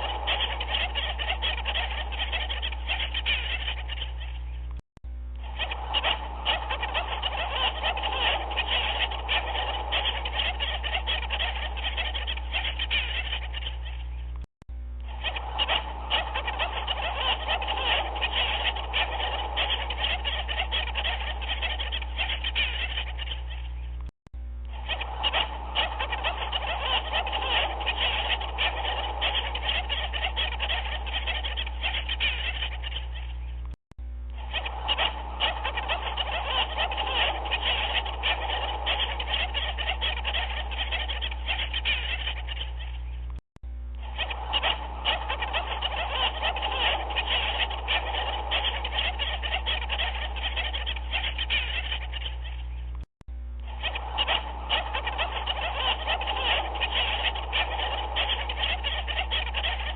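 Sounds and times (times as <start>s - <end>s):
chorus of animal calls: 0.0s - 4.7s, 5.4s - 14.4s, 15.0s - 33.7s, 34.3s - 53.0s, 53.6s - 59.9s
steady low hum: 0.0s - 59.9s.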